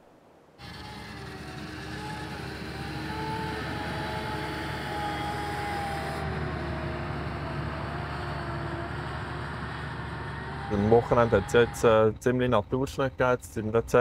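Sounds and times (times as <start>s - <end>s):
diesel engine rumbling with whine: 0.6s - 14.0s.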